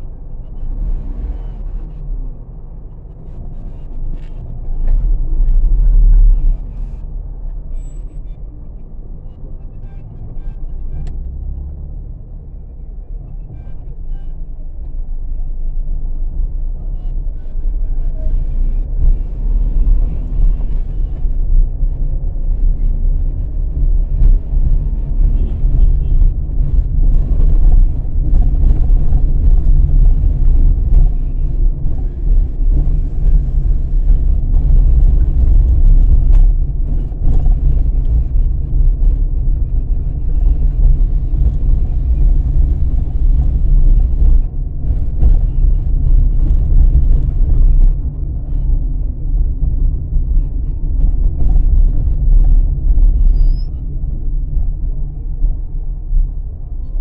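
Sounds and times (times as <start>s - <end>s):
vehicle road and wind rumble: 0.0s - 57.0s.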